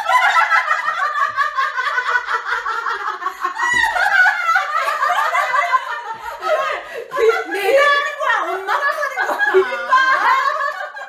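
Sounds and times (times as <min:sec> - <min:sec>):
women laughing: 0:00.0 - 0:11.0.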